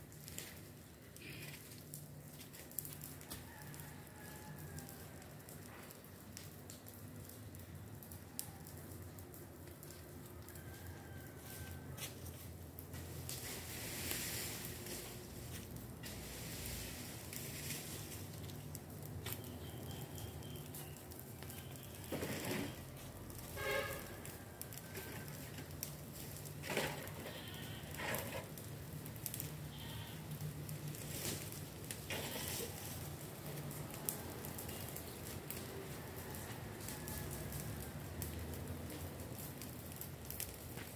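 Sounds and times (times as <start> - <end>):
outdoor background noise: 0.0 - 40.9.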